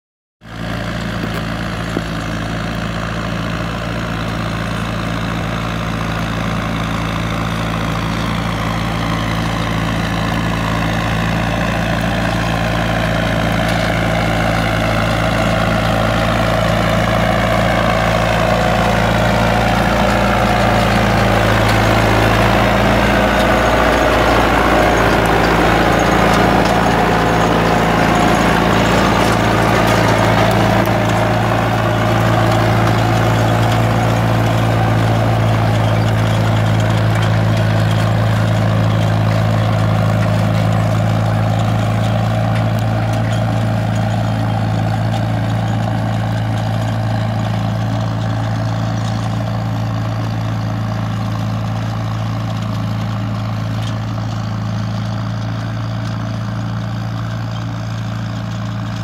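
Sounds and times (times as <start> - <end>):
tractor diesel engine running: 0.4 - 59.0.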